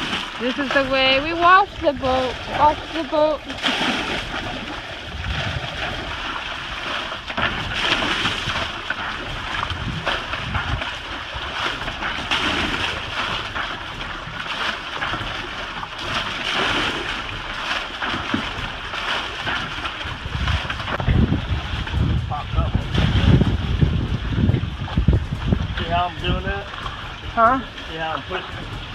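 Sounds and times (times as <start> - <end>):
water splashing around a boat: 0.0 - 28.9
wind rumbling on microphone: 0.0 - 28.9.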